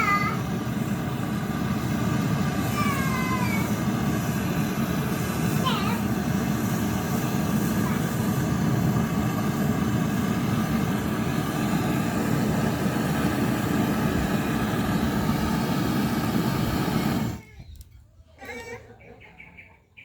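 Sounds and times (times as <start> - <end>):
motor-driven machine running: 0.0 - 17.4.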